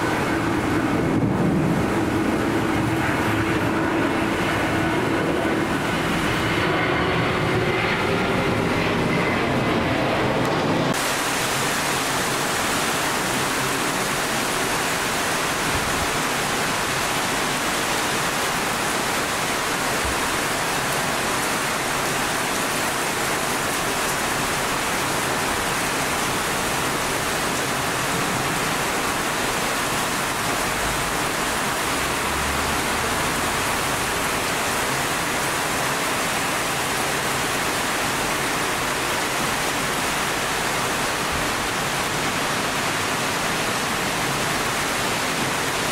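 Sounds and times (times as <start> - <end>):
steady hiss of rain: 0.0 - 6.7, 10.5 - 45.9.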